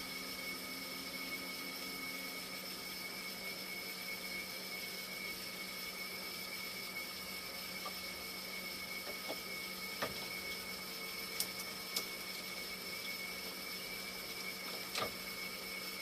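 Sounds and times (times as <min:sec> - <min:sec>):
machinery hum with low drone: 0:00.0 - 0:16.0.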